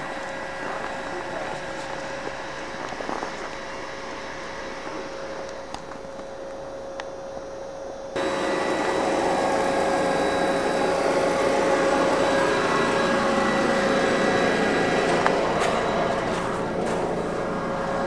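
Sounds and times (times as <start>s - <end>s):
train mechanical whirring: 0.0s - 18.0s.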